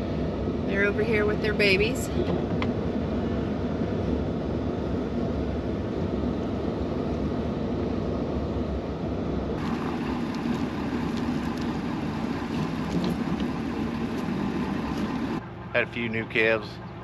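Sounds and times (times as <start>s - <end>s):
truck engine and tyre rumble: 0.0s - 17.0s.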